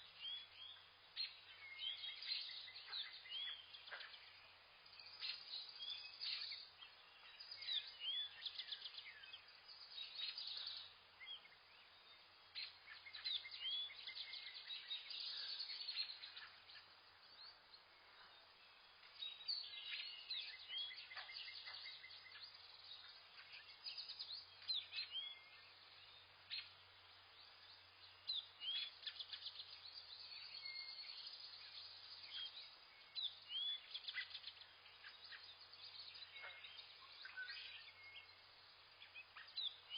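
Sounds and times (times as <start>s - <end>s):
birds chirping and trilling: 0.0s - 39.9s
faint low hum: 0.0s - 39.9s.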